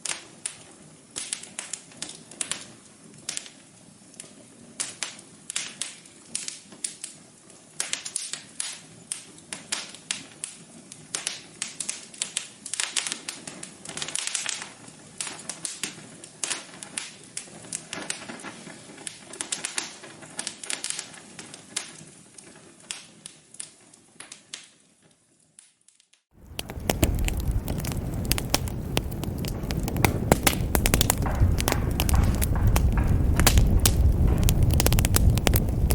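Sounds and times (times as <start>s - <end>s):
wood fire crackling: 0.0s - 24.8s, 26.4s - 35.9s.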